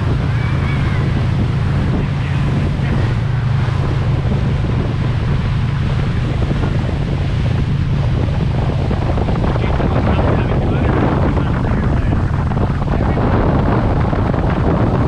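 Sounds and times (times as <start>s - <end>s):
motorboat engine humming: 0.0s - 15.0s
rushing water: 0.0s - 15.0s
wind buffeting microphone: 0.0s - 15.0s.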